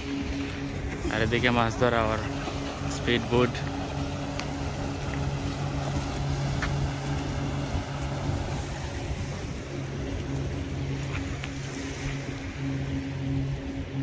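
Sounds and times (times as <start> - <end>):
constant rushing noise: 0.0 - 14.0
motorboat engine humming: 0.0 - 14.0.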